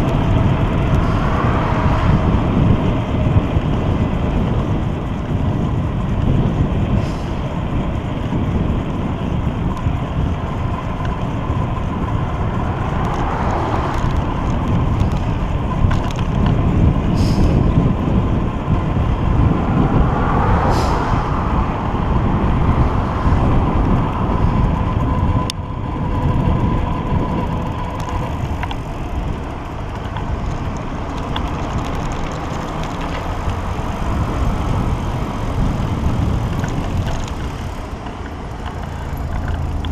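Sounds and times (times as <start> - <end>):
passing traffic: 0.0 - 39.9
road noise: 0.0 - 39.9
wind buffeting microphone: 0.0 - 39.9.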